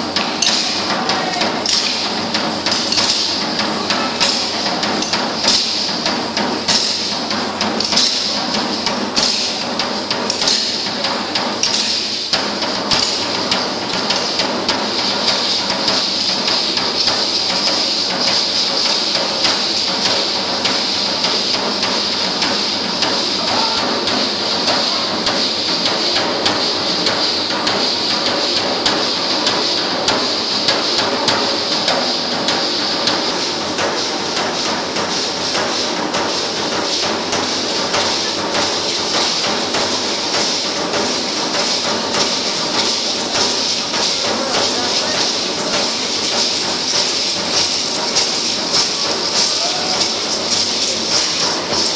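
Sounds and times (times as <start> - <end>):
hand rattles shaken in rhythm: 0.0 - 51.9
stamping and beating strokes: 0.0 - 51.9.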